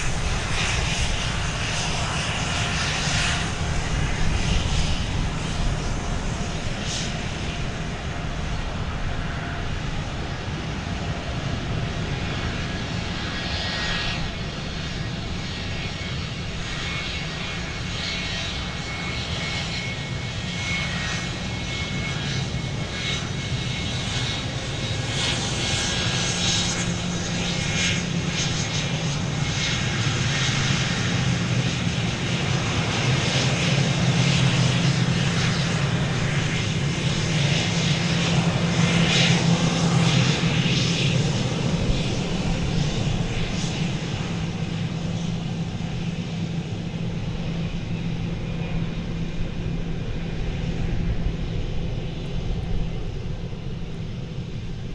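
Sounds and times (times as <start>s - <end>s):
airplane engines running: 0.0s - 54.9s.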